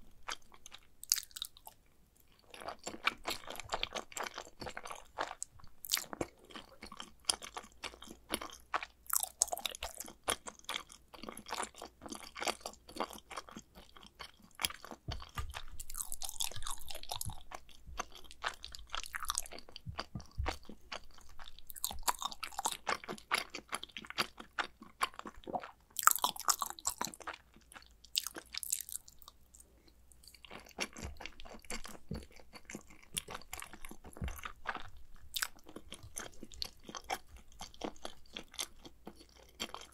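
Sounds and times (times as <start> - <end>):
chewing with mouth clicks: 0.2 - 39.9.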